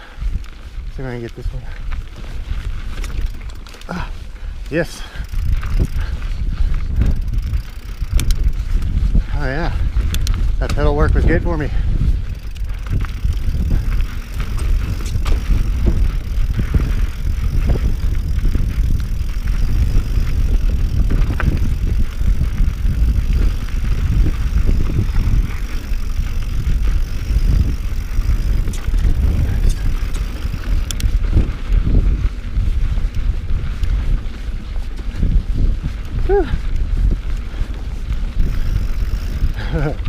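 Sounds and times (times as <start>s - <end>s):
bike rattling: 0.0s - 40.0s
bike tyres rolling on rock: 0.0s - 40.0s
wind rumble on microphone: 0.0s - 40.0s.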